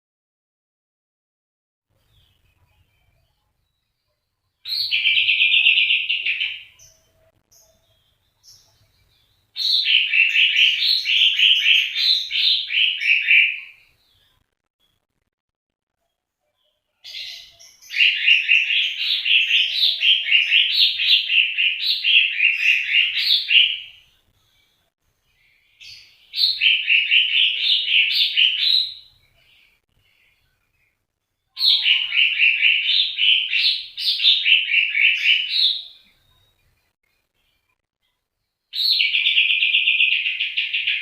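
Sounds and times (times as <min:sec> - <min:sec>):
songbird chirping: 0:01.9 - 0:15.2, 0:15.9 - 0:41.0.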